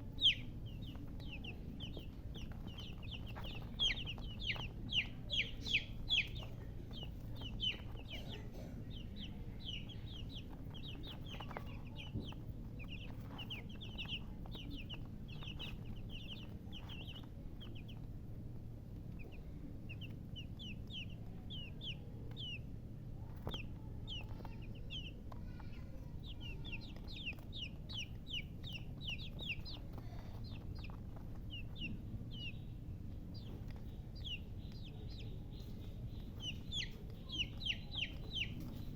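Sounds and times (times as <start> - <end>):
baby chicks peeping: 0.0 - 38.9
steady low rumble: 0.0 - 38.9.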